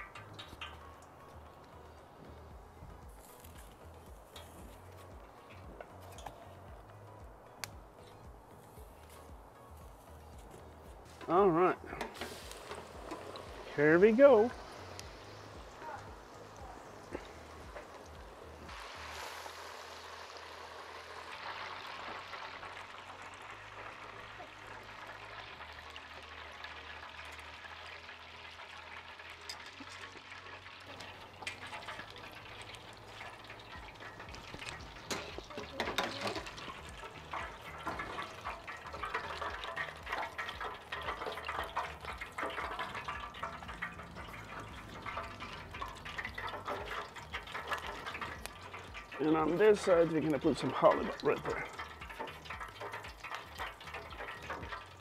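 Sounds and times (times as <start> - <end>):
fish sizzling in hot oil: 0.0 - 55.0.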